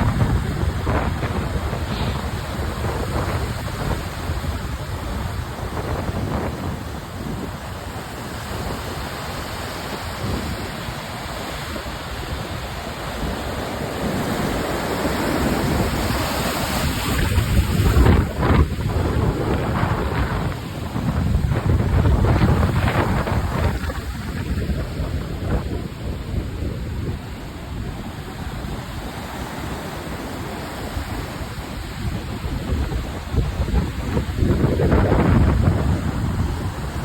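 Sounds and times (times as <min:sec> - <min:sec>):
surf breaking on shore: 0:00.0 - 0:37.0
wind gusting over microphone: 0:00.0 - 0:37.0.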